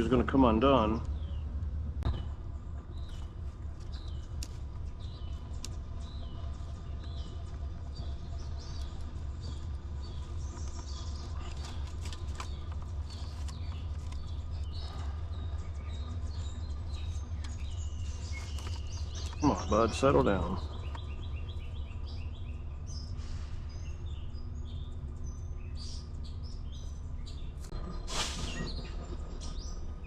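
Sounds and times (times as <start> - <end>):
low rumble: 0.0 - 30.0
varied bird calls: 0.0 - 30.0.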